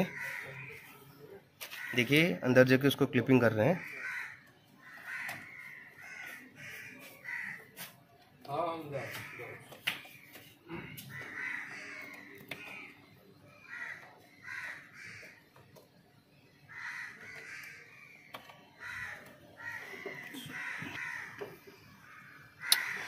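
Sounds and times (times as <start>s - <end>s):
crows cawing: 0.0s - 2.5s, 3.5s - 23.0s.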